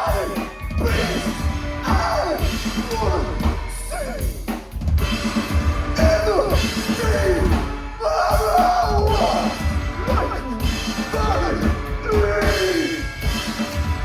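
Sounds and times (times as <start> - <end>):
drum kit with bass drum and snare: 0.0 - 14.0
live band playing: 0.0 - 14.0.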